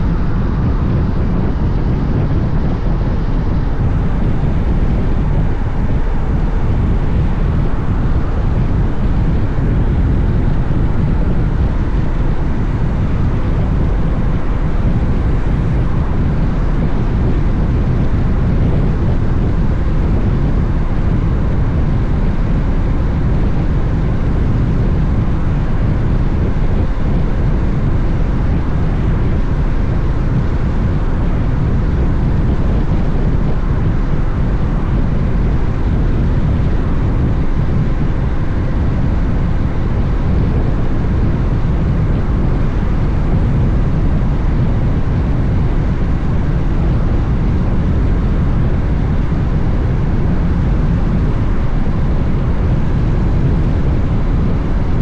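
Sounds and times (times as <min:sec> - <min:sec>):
wind rush: 0:00.0 - 0:55.0.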